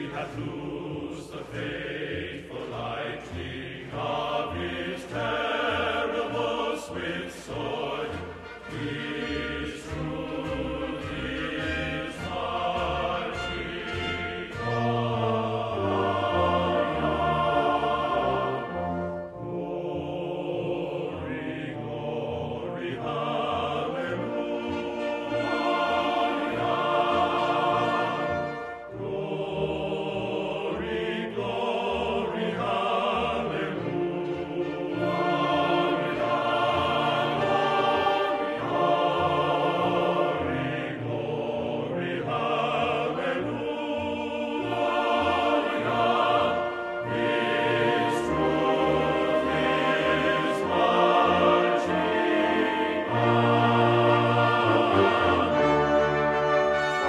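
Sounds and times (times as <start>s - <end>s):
choir singing: 0.0s - 57.0s
orchestral backing: 0.0s - 57.0s.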